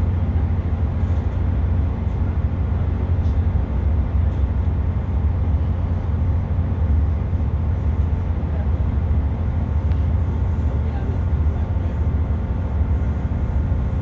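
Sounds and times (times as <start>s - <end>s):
diesel engine drone: 0.0s - 14.0s
train running rumble: 0.0s - 14.0s.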